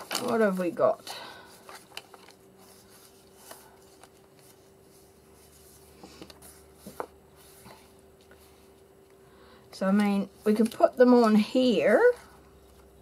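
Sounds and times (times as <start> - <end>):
paper pages rustling: 0.0 - 8.9, 9.9 - 13.0.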